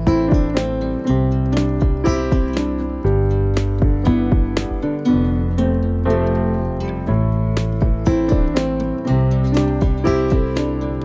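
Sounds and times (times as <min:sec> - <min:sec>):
plucked guitar-like notes: 0:00.0 - 0:11.0
steady bass line: 0:00.0 - 0:11.0.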